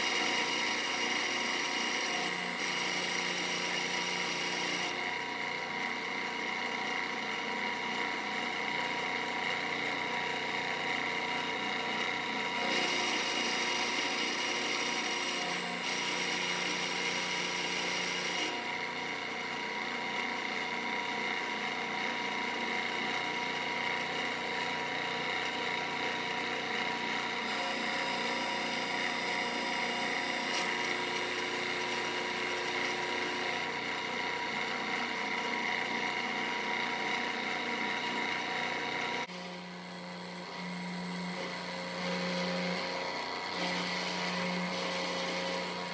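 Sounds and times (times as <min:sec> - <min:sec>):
router spindle whine cutting metal: 0:00.0 - 0:45.9.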